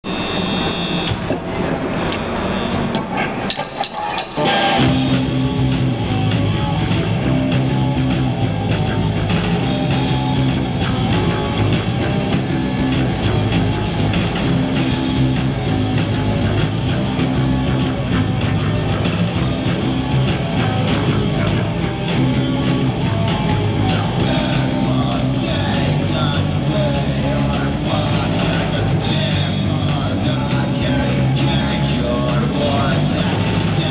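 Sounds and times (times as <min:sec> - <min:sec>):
drum kit: 0:00.0 - 0:33.9
electric guitars: 0:00.1 - 0:33.9.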